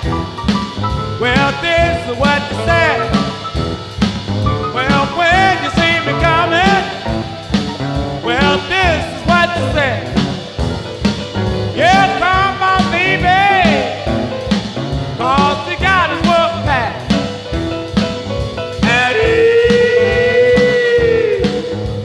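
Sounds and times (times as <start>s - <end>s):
bending sliding lead notes: 0.0s - 22.0s
blues band instrumental: 0.0s - 22.0s.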